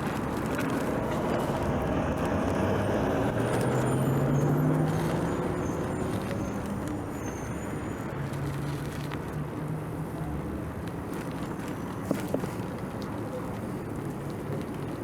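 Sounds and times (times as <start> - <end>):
motor vehicle engine hum: 0.0 - 15.0
steady road noise: 0.0 - 15.0.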